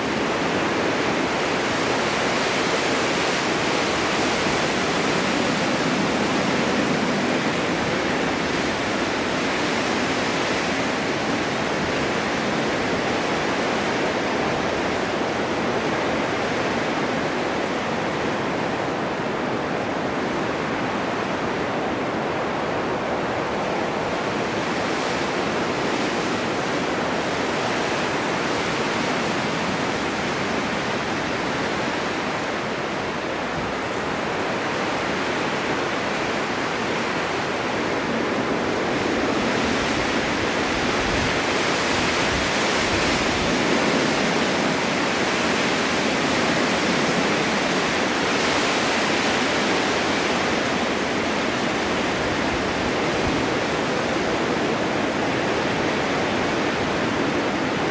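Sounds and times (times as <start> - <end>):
wind blowing in gusts: 0.0 - 57.9.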